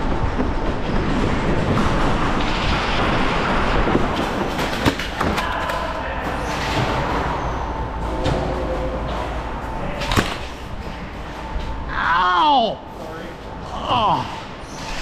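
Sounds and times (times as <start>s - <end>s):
rumbling movement noise: 0.0s - 15.0s.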